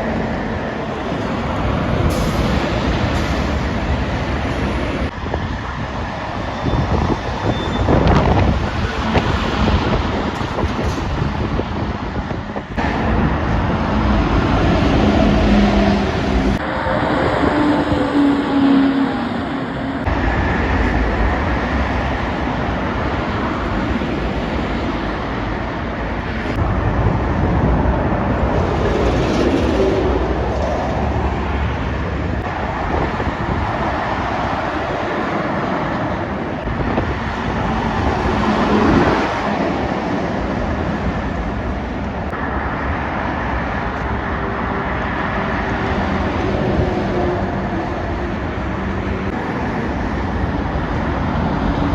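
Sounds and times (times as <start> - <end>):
heavy trucks driving past: 0.0 - 51.9.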